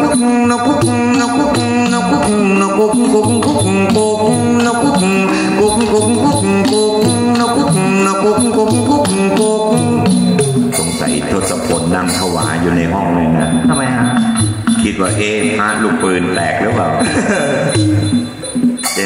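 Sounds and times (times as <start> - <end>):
traditional instrumental music: 0.0 - 19.0.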